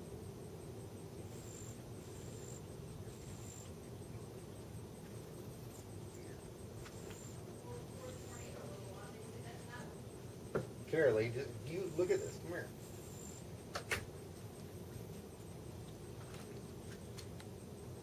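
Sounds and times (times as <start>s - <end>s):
crickets chirping: 0.0s - 18.0s
low background noise: 0.0s - 18.0s.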